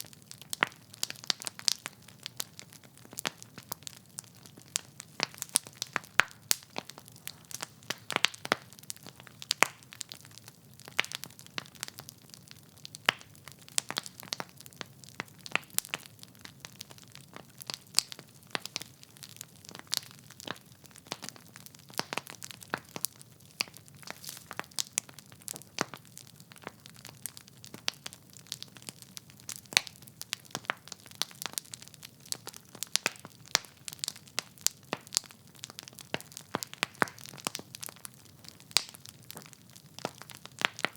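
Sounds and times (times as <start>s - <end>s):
logs crackling and popping: 0.0s - 40.9s.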